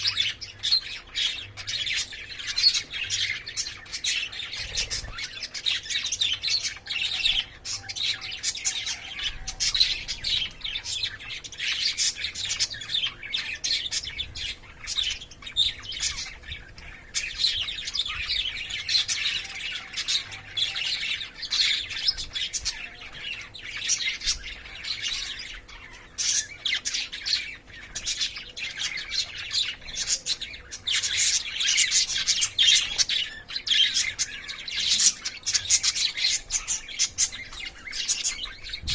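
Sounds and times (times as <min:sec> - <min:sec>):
birds chirping and squawking: 0:00.0 - 0:38.9.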